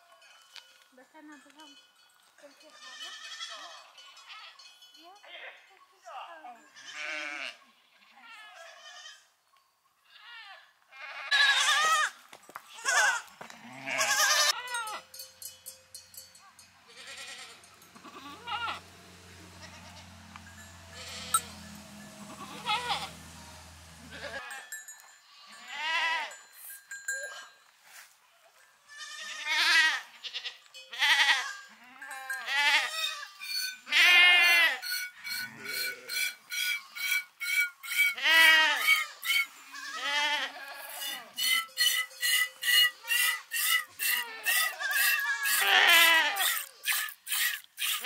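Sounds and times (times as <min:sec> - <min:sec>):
goat bell clanking: 0:00.0 - 0:07.4, 0:11.9 - 0:19.0, 0:19.6 - 0:23.4, 0:24.1 - 0:27.8, 0:30.2 - 0:48.0
goats and sheep bleating: 0:02.6 - 0:04.7, 0:06.6 - 0:09.3, 0:10.0 - 0:15.2, 0:16.8 - 0:26.4, 0:28.8 - 0:48.0.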